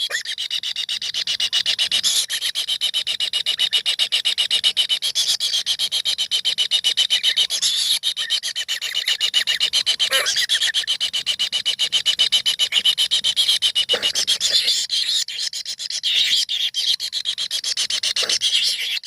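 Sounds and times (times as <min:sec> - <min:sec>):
nestlings begging calls: 0:00.0 - 0:19.0.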